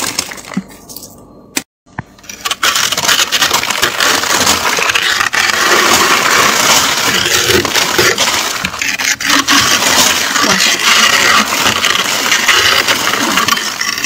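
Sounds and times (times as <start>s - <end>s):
metal fork scraping freezer frost: 2.2s - 14.0s.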